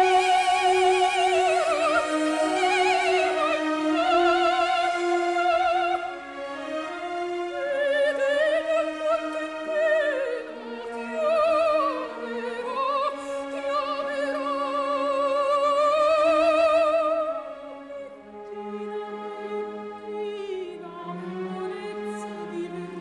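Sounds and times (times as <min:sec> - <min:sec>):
orchestral accompaniment: 0:00.0 - 0:23.0.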